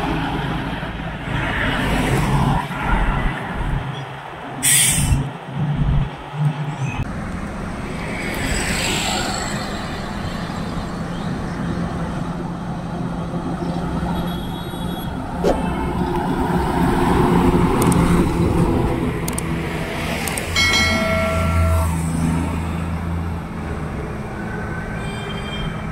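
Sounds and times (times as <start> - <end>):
trucks and cars driving past: 0.0 - 25.9.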